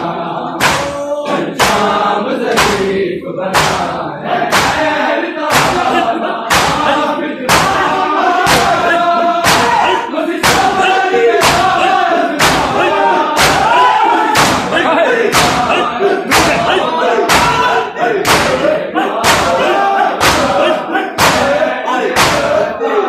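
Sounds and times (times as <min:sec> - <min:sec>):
men chanting a lament: 0:00.0 - 0:23.0
chests being slapped in unison: 0:00.6 - 0:01.0, 0:01.6 - 0:22.7.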